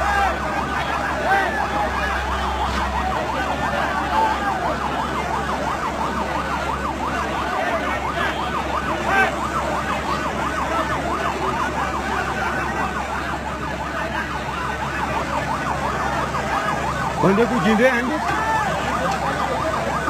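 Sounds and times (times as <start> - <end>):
large crowd noise: 0.0 - 20.0
siren yelping: 0.0 - 20.0.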